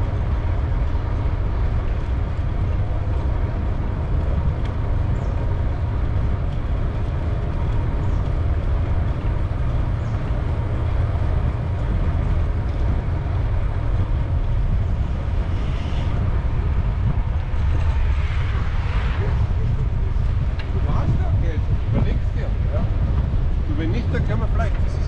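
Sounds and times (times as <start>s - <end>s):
bicycle riding rumble: 0.0s - 25.0s
wind buffeting microphone: 0.0s - 25.0s.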